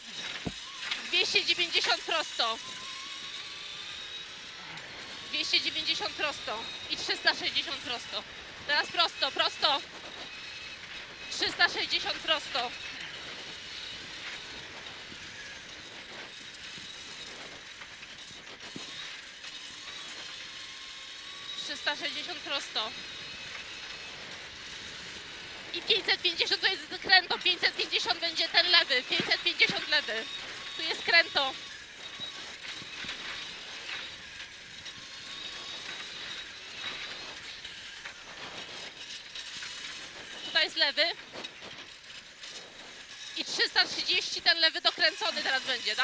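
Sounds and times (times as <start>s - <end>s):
car drive noise with high whine: 0.0s - 46.0s.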